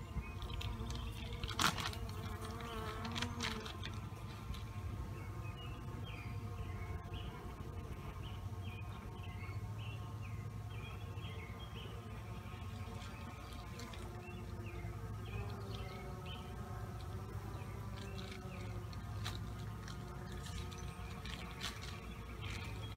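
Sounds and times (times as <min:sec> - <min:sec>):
bees buzzing: 0:00.0 - 0:22.9.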